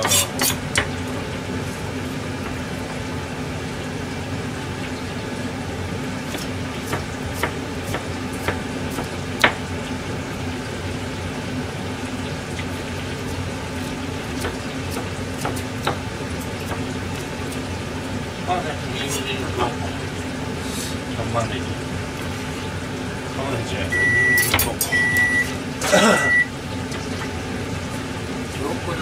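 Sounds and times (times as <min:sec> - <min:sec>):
steady hum and hiss: 0:00.0 - 0:29.0.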